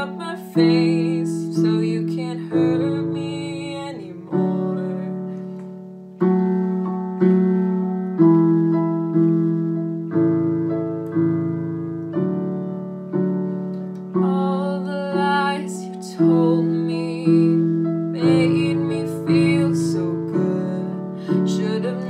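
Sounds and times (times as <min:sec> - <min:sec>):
piano chords ringing: 0:00.0 - 0:22.0.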